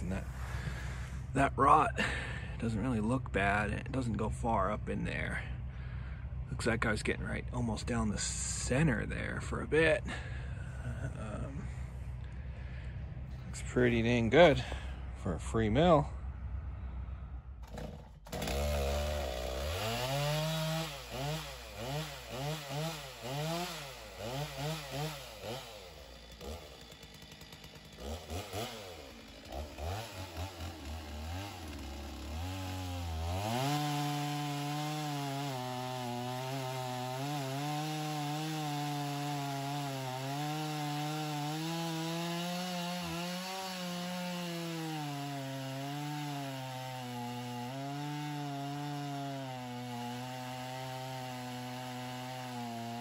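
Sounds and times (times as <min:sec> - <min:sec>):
chainsaw revving: 0:00.0 - 0:05.7, 0:10.0 - 0:14.9, 0:17.6 - 0:53.0
chainsaw cutting through log: 0:00.0 - 0:14.9, 0:17.6 - 0:53.0.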